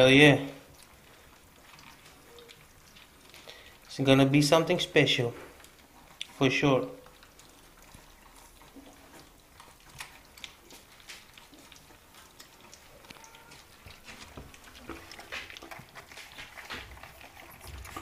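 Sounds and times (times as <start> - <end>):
puppies chewing wet meat: 0.0 - 18.0.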